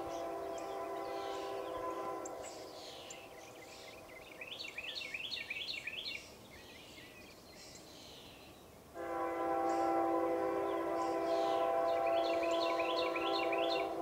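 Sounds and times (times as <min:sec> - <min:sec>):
birds singing: 0:00.0 - 0:08.7, 0:09.5 - 0:14.0
outdoor background hiss: 0:00.0 - 0:14.0.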